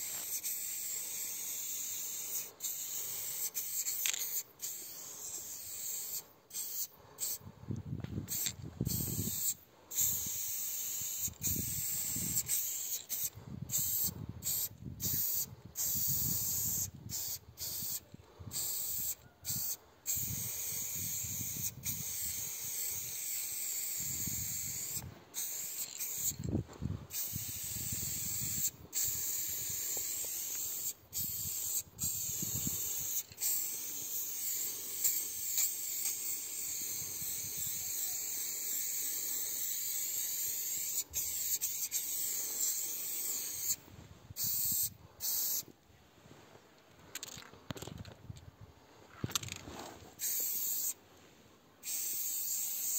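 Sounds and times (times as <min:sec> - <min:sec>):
spray paint cans hissing: 0:00.0 - 0:07.4, 0:08.3 - 0:43.8, 0:44.4 - 0:45.7, 0:50.2 - 0:51.0, 0:51.8 - 0:52.9.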